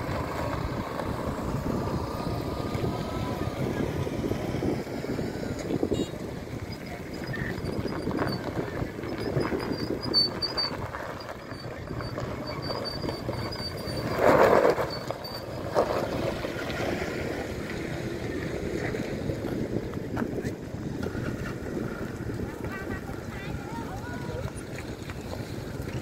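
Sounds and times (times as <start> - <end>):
vehicle engines running: 0.0 - 26.0
wind buffeting microphone: 0.0 - 26.0.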